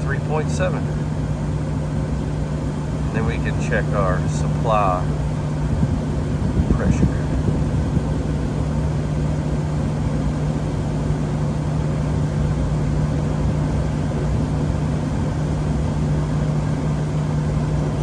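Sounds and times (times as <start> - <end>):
heating unit humming: 0.0 - 18.0.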